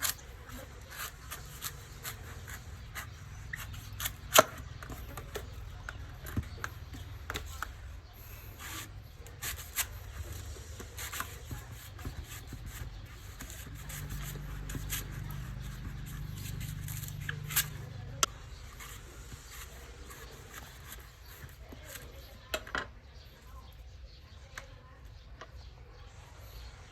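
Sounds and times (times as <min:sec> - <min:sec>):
knife scraping coconut: 0:00.0 - 0:22.4.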